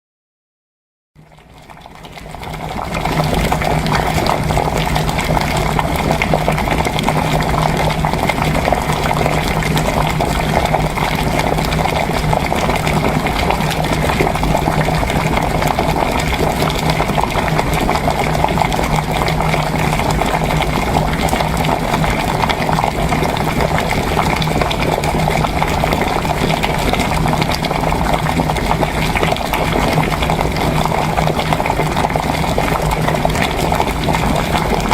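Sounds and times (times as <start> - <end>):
water bubbling at a boil: 1.2 - 34.9.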